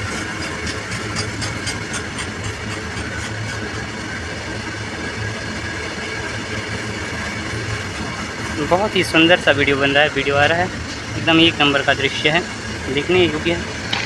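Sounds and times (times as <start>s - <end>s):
diesel locomotive droning: 0.0s - 14.0s.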